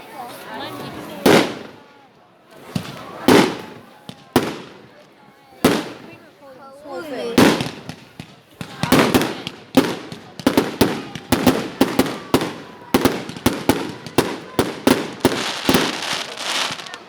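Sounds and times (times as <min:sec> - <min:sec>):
fireworks bangs crackling: 0:00.9 - 0:06.3, 0:07.2 - 0:17.0.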